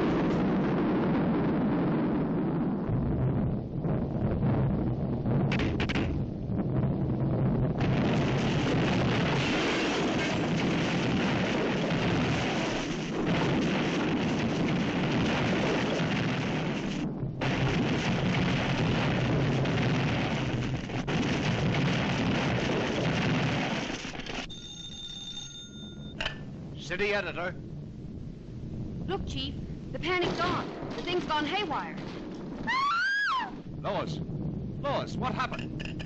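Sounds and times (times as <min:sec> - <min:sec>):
cartoon explosions and crashes: 0:00.0 - 0:24.6, 0:29.1 - 0:36.0.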